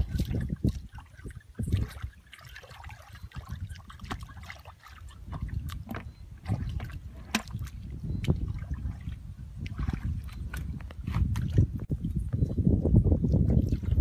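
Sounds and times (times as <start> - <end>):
wet splashes and drips: 0.0 - 11.7
hands squelching in muddy water: 0.0 - 11.9.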